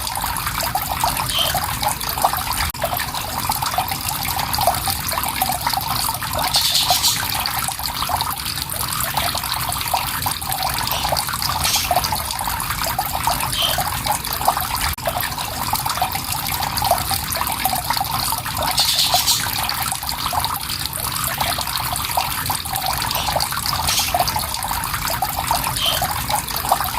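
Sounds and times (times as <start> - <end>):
water flowing and trickling: 0.0 - 26.9.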